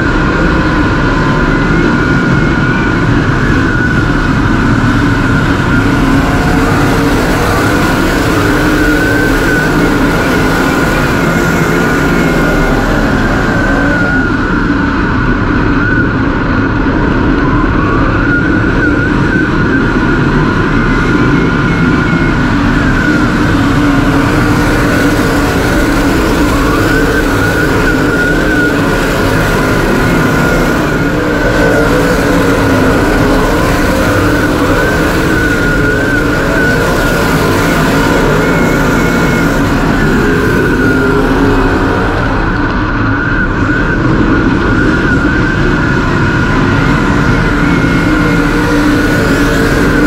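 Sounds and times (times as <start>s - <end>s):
race car engines droning: 0.0s - 50.0s.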